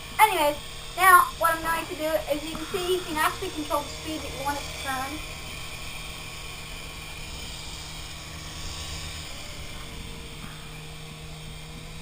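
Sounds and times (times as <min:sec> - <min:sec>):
toy helicopter buzzing whir: 0:00.0 - 0:12.0.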